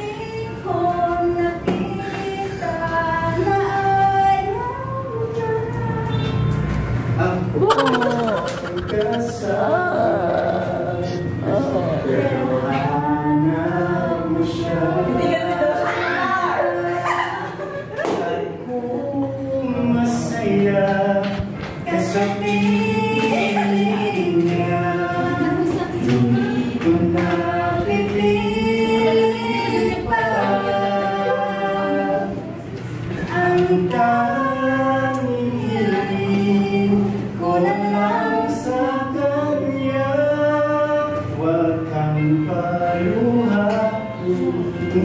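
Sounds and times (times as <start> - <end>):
woman and man singing ballad: 7.2 - 45.0.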